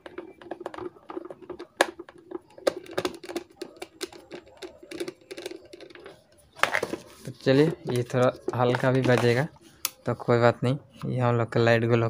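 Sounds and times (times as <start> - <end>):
small parts clicking and tapping: 0.0 - 10.0.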